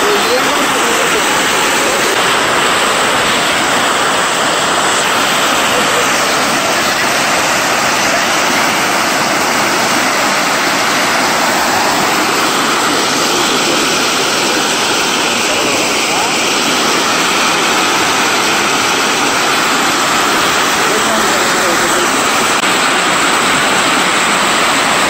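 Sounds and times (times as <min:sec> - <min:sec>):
water gushing into a canal: 0:00.0 - 0:25.0.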